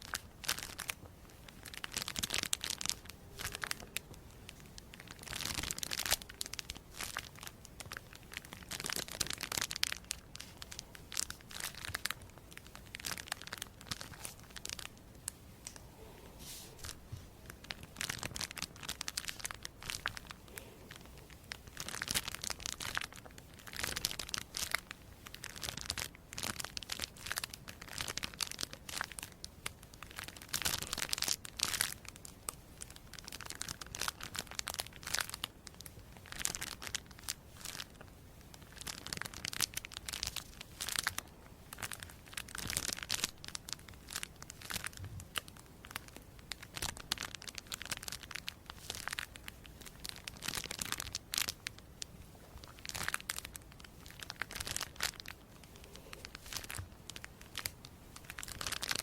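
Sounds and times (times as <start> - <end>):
crisp crinkling and crackling: 0.0 - 59.0.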